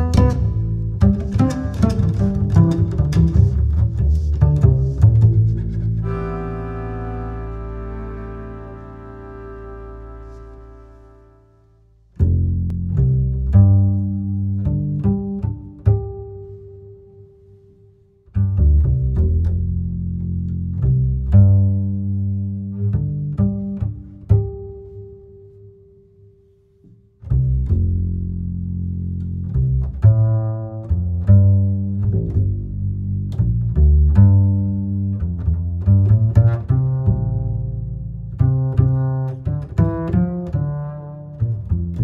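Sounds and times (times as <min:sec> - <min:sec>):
low plucked instrumental music: 0:00.0 - 0:42.0.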